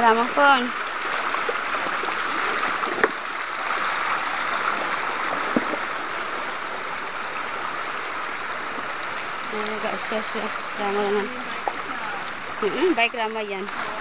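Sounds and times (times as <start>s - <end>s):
stream of running water: 0.0s - 14.0s.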